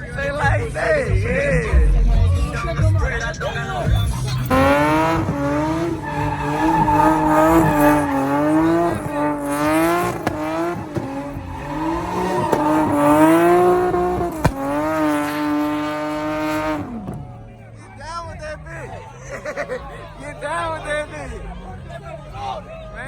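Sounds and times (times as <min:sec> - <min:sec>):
truck engine running: 0:00.0 - 0:23.0
truck tires squealing: 0:00.0 - 0:23.0.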